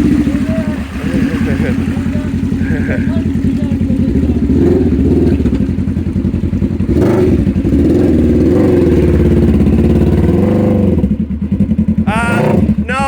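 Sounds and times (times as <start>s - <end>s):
utility vehicle engine under load: 0.0s - 13.0s.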